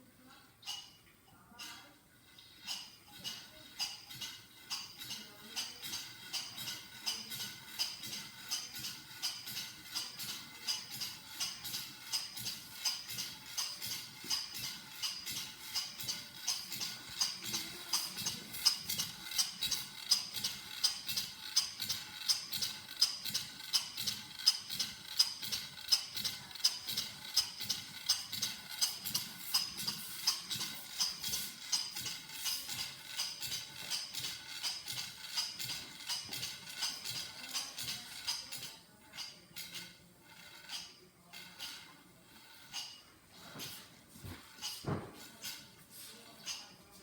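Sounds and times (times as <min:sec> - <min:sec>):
model engine clacking: 0:01.6 - 0:46.9.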